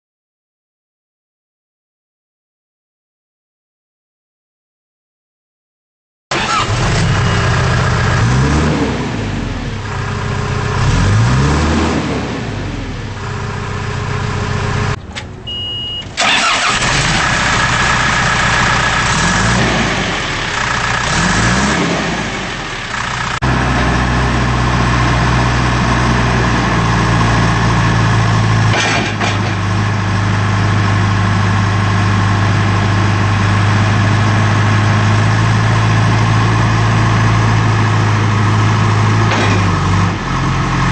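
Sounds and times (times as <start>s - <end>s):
diesel engine revving and idling: 6.3s - 40.9s.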